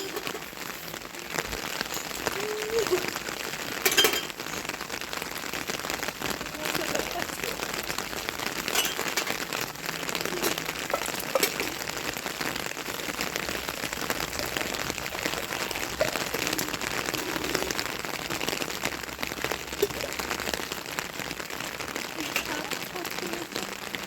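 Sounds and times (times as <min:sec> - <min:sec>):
rain hissing: 0:00.0 - 0:24.0
raindrop taps: 0:00.0 - 0:24.0.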